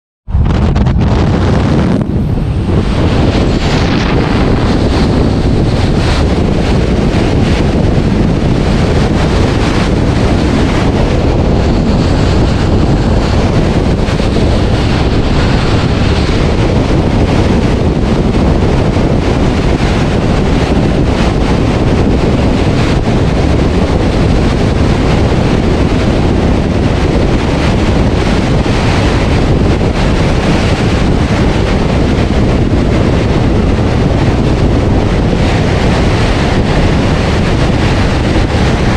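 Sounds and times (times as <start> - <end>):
road noise: 0.3 - 38.9
wind buffeting microphone: 0.3 - 38.9.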